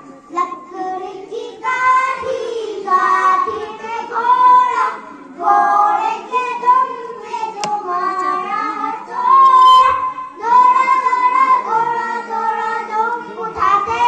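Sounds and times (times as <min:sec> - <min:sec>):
children singing: 0:00.0 - 0:14.0.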